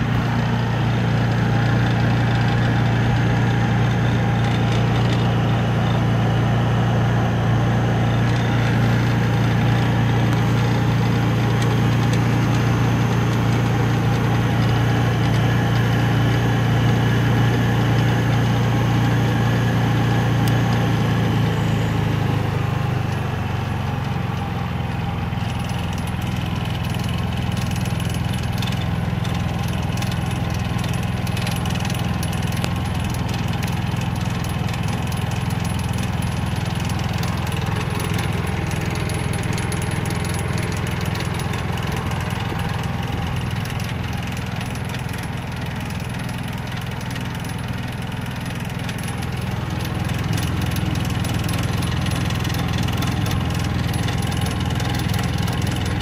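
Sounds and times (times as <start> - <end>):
generator running: 0.0 - 56.0.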